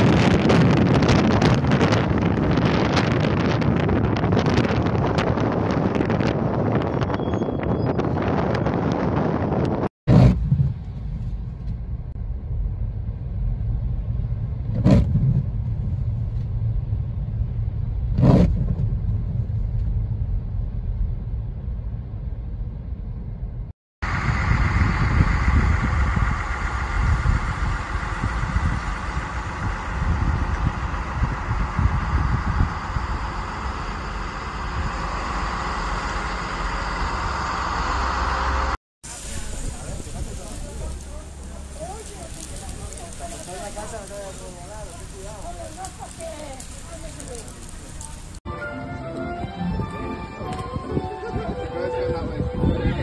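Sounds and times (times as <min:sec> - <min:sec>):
rushing outdoor air: 0:00.0 - 0:48.4.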